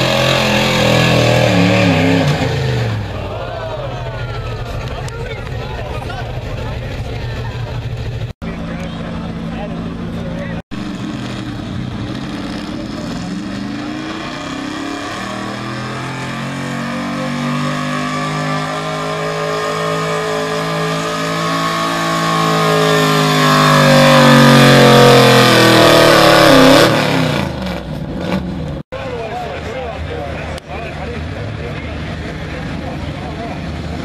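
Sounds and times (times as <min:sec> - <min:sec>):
truck engine at high revs: 0:00.0 - 0:34.0.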